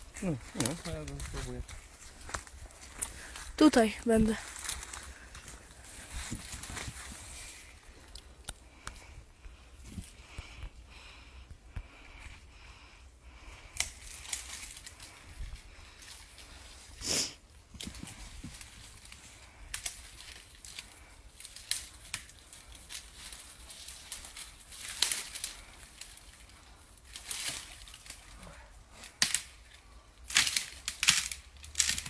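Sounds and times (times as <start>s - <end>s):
dry leaves and twigs crunching: 0.0s - 10.6s, 11.9s - 32.0s.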